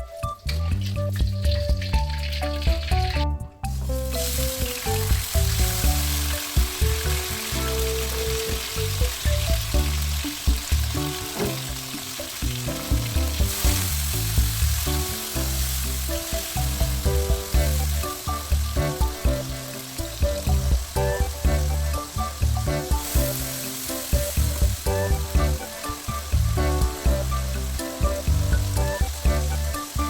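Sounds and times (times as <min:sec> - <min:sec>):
background music: 0:00.0 - 0:30.0
food sizzling in hot oil: 0:00.2 - 0:30.0.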